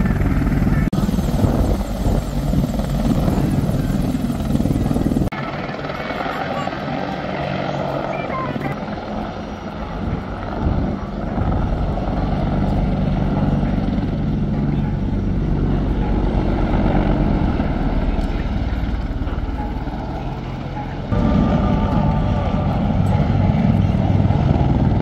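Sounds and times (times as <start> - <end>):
aircraft engine drone: 0.0 - 25.0.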